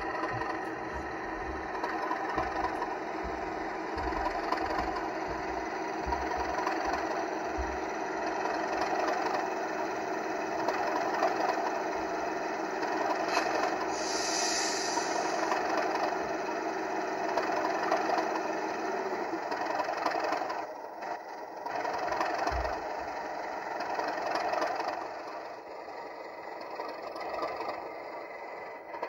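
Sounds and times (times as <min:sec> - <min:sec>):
mechanical whirr: 0:00.0 - 0:29.0
model diesel engine sound: 0:00.0 - 0:29.0.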